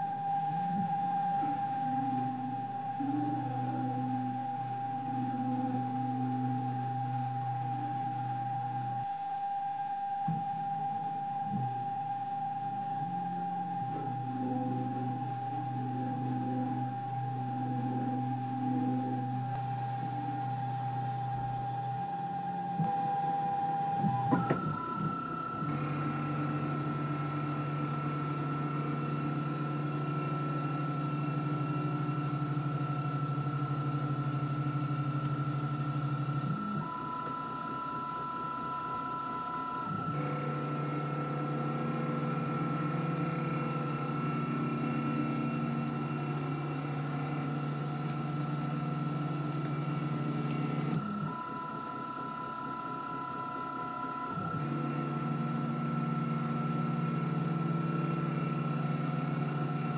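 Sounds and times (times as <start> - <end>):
lathe motor whine: 0.0 - 59.9.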